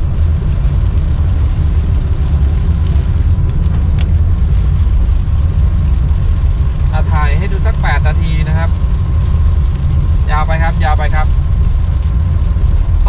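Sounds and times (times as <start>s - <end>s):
engine and tyres on wet road: 0.0s - 13.0s.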